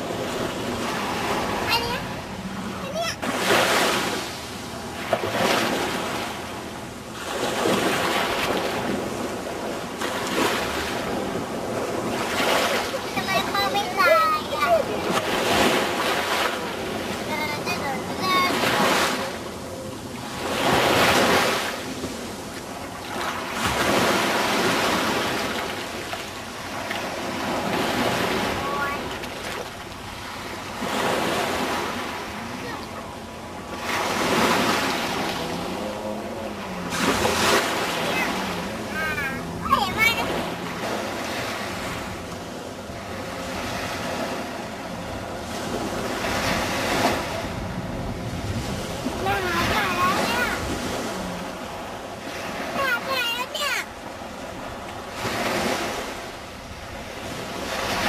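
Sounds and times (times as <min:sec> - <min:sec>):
wind buffeting microphone: 0:00.0 - 0:53.0
waves breaking on sandy shore: 0:00.0 - 0:58.0.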